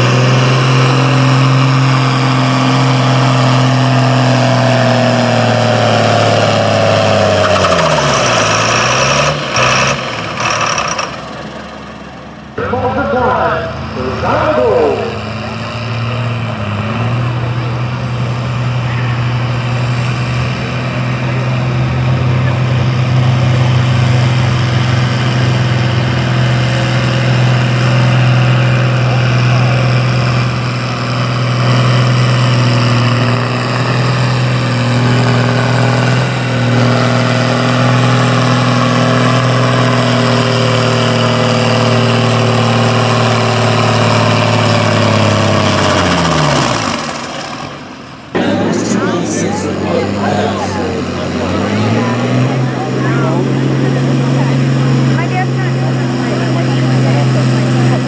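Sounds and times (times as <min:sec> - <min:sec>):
tractor engine revving hard: 0:00.0 - 0:58.0.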